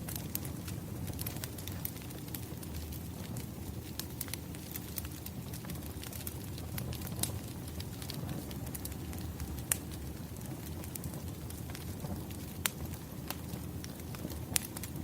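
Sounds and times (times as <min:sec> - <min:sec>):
wood fire crackling: 0:00.0 - 0:15.0
firewood popping: 0:02.8 - 0:14.9.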